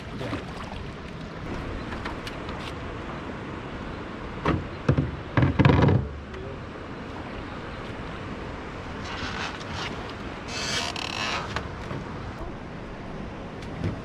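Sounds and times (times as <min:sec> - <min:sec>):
water rushing: 0:00.0 - 0:05.4, 0:06.1 - 0:14.0
wind: 0:00.0 - 0:14.0.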